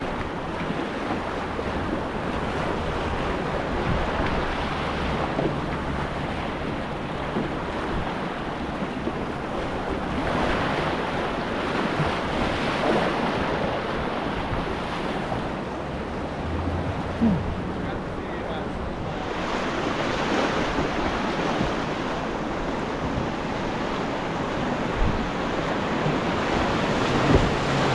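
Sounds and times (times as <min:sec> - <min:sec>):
whitewater rushing: 0:00.0 - 0:27.9
wind rumble on microphone: 0:00.0 - 0:27.9.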